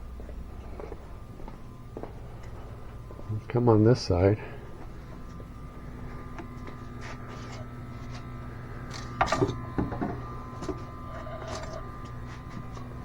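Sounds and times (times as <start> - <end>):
smoke machine pump humming: 0.0 - 13.0.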